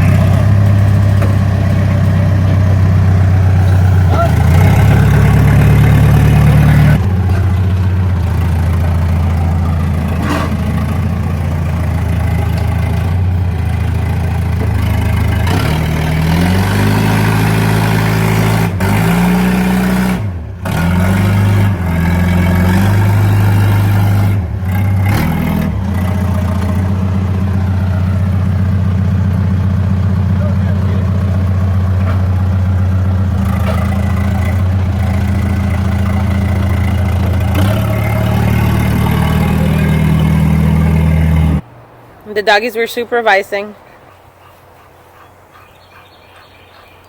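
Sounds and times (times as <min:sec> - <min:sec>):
forklift engine revving: 0:00.0 - 0:42.0.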